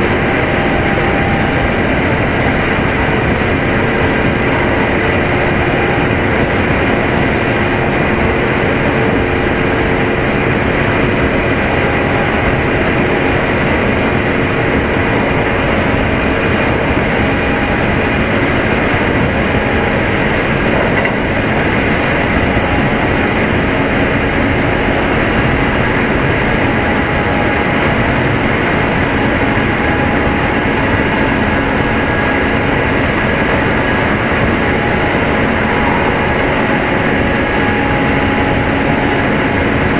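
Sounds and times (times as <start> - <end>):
train motor whining: 0.0 - 39.9
train wheels rumbling: 0.0 - 39.9.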